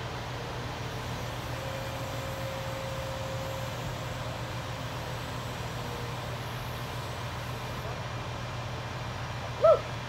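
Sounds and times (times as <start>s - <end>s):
diesel engine running under load: 0.0s - 10.0s.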